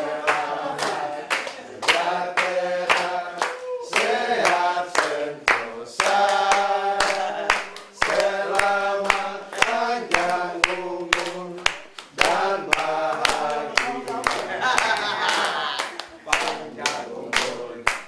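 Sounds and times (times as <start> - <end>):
group singing in unison: 0.0 - 18.0
hands clapping in time: 0.2 - 18.0.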